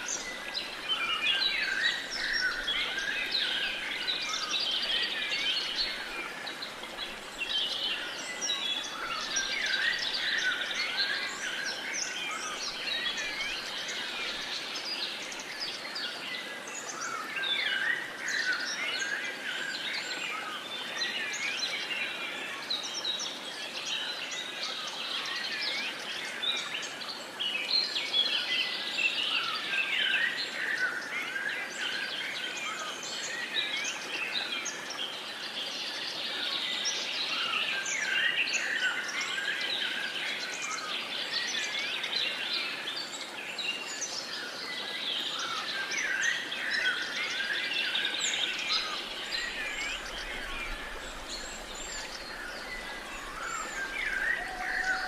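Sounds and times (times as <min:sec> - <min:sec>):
birds singing and chirping: 0:00.0 - 0:22.2, 0:27.7 - 0:55.0
faint steady hiss: 0:00.0 - 0:55.0.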